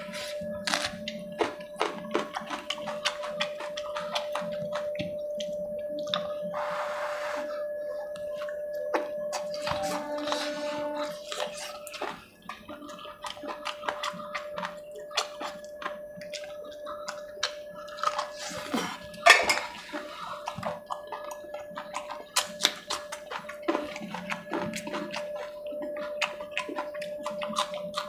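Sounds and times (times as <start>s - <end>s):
chewing and lip-smacking: 0.0s - 6.5s, 7.9s - 28.0s
faint steady hum: 0.0s - 28.0s.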